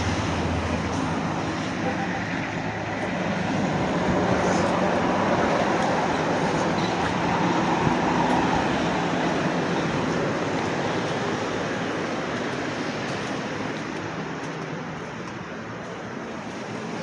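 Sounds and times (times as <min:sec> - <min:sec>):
vehicle rumble and hiss: 0:00.0 - 0:17.0.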